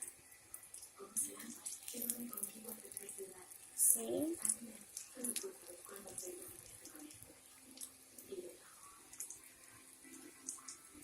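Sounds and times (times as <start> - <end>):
plantain sizzling in hot oil: 0.0 - 11.0
small crackles of frying: 0.0 - 11.0.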